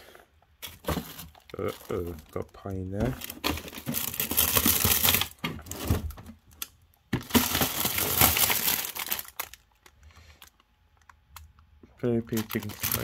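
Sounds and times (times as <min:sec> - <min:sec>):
plastic packaging crinkling: 0:00.6 - 0:13.0.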